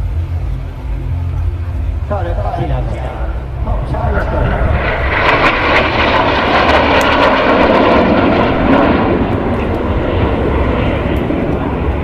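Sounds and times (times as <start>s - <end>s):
jet engines roaring past: 0.0s - 12.0s.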